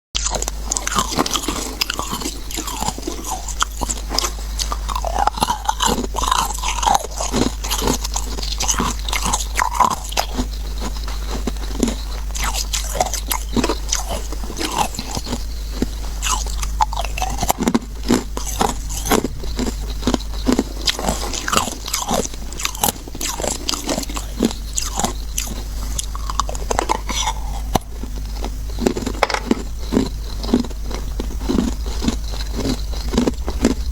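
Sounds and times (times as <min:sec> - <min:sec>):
ice being chewed: 0:00.2 - 0:33.9
low hum: 0:00.2 - 0:33.9.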